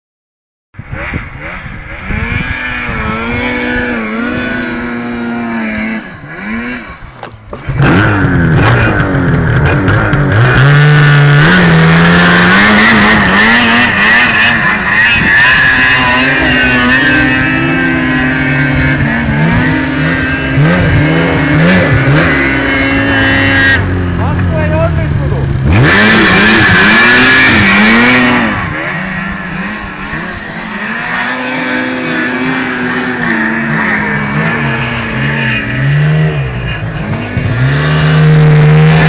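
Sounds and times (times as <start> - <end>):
distant snowmobile engine: 0.8 - 39.0
snowmobile engine revving hard: 0.8 - 39.0.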